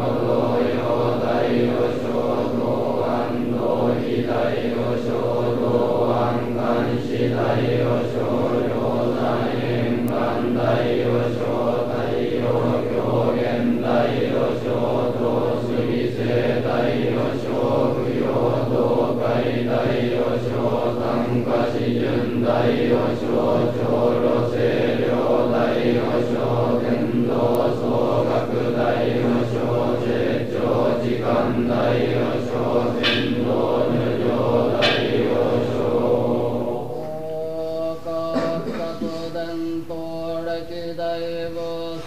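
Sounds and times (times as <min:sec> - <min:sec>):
monks chanting in unison: 0:00.0 - 0:42.0.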